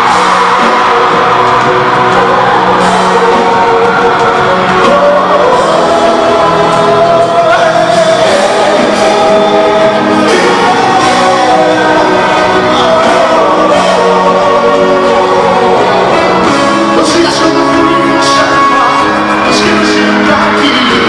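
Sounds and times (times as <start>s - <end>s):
full band with guitars: 0.0s - 21.0s
man singing into a microphone: 0.0s - 21.0s.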